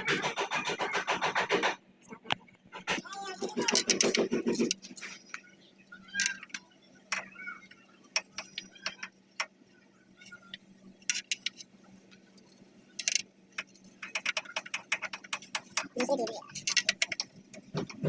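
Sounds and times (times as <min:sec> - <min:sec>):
faint steady hum: 0:01.8 - 0:18.0.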